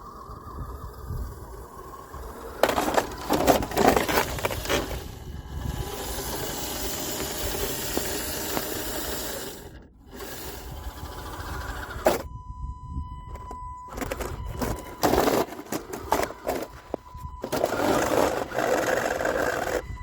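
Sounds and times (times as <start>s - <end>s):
small electric motor whirring: 0.0s - 12.3s, 13.9s - 20.0s.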